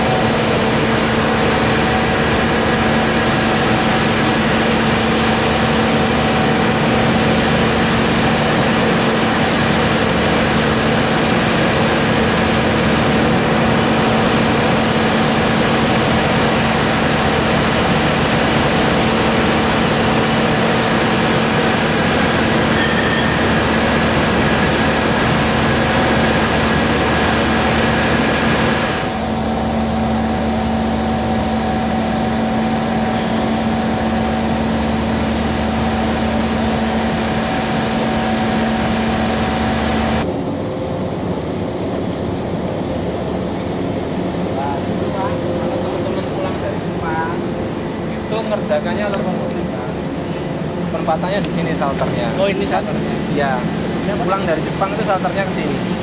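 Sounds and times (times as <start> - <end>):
diesel locomotive engine hum: 0.0 - 56.0.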